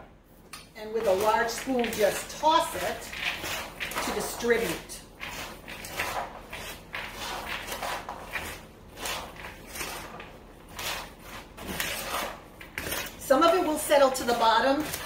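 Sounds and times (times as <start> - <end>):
metal spoon tossing berries in bowl: 0.6 - 15.0.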